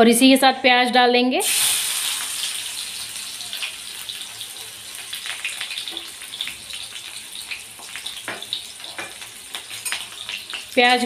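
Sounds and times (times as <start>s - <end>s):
onion frying in hot oil: 1.4s - 11.0s.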